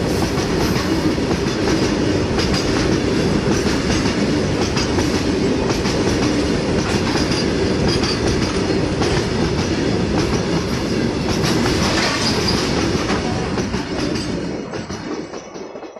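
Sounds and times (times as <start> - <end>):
freight train rumble: 0.0 - 15.9
wheels clicking over rail joints: 0.3 - 15.9.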